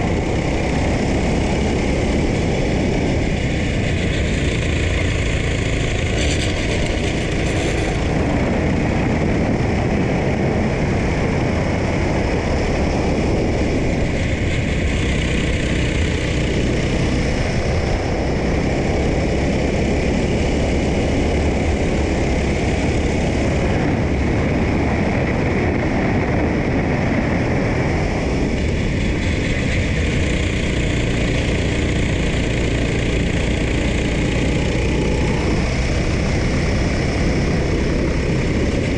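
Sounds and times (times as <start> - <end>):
go-kart engine racing: 0.0 - 38.9.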